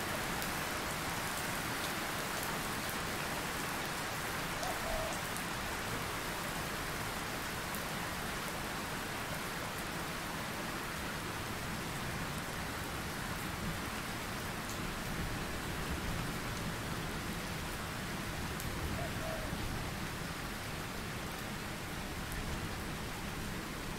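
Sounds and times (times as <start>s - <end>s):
steady rain hiss: 0.0s - 23.9s.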